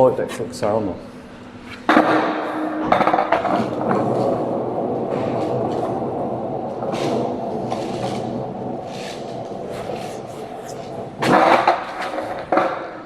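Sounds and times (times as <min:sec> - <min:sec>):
skateboard wheels rolling: 0:01.8 - 0:13.0
skateboard clack: 0:01.9 - 0:10.2, 0:10.8 - 0:13.0.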